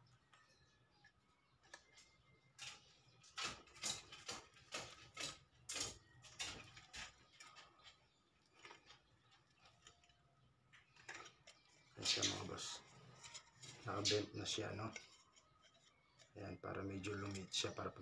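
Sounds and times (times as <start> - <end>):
sheet metal clicking and scraping: 1.0 - 18.0.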